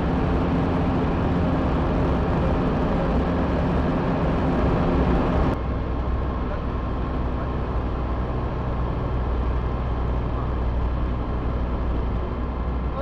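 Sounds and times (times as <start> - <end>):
aircraft engine and propeller droning: 0.0 - 13.0.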